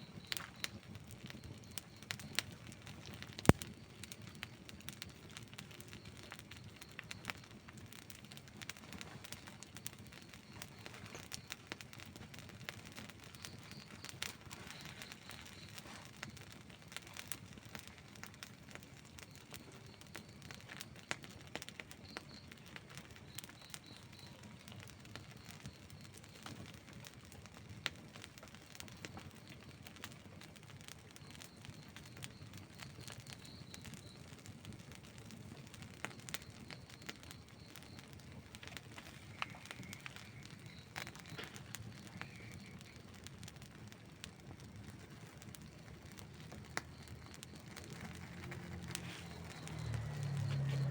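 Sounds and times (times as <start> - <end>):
fire burning rush: 0.0 - 25.0, 31.1 - 50.9
campfire crackling: 0.0 - 50.9
fire popping: 0.0 - 50.9.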